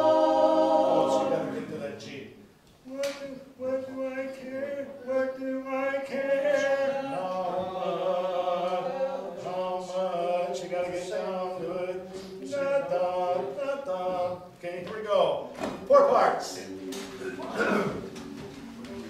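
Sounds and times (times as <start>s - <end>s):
voices singing a cappella: 0.0s - 19.0s.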